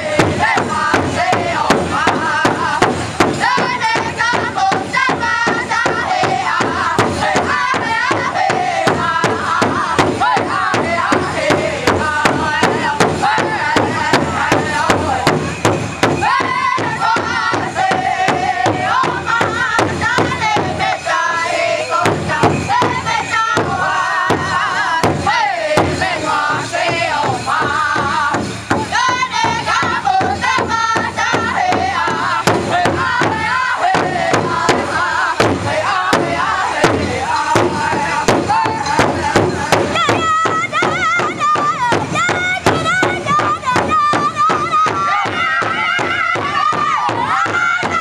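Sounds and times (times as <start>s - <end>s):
group singing in high chanted voices: 0.0s - 48.0s
large drum beaten with sticks: 0.0s - 48.0s.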